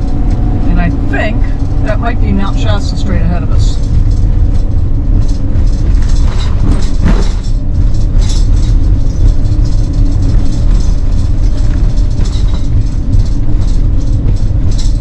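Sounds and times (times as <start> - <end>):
engine and road rumble: 0.0 - 15.0
rattles and clatter: 0.0 - 15.0.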